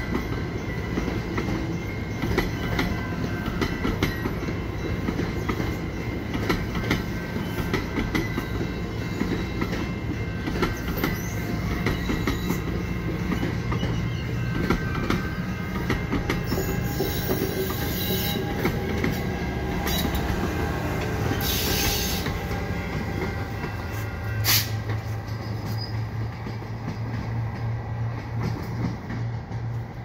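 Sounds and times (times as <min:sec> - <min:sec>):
locomotive engine drone: 0:00.0 - 0:30.0
train wheels clicking on rails: 0:00.0 - 0:30.0
wheels squealing on rails: 0:00.0 - 0:30.0.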